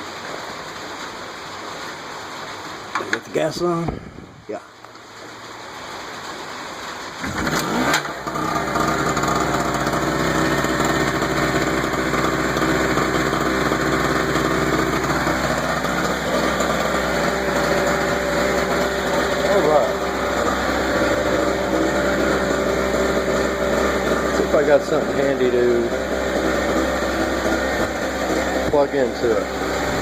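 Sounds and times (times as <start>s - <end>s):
generator engine running: 5.7s - 30.0s.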